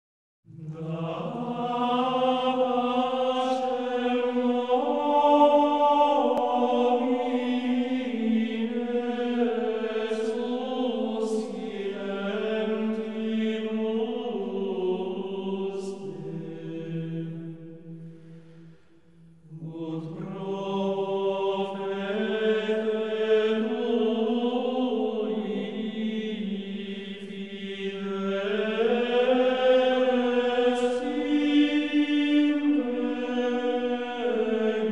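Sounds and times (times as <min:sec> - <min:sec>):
slow sustained vocal chanting: 0:00.5 - 0:34.9.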